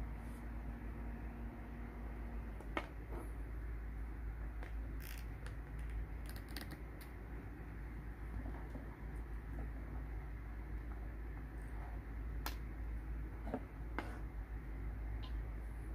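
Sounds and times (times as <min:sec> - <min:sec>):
cooling fan humming: 0:00.0 - 0:15.9.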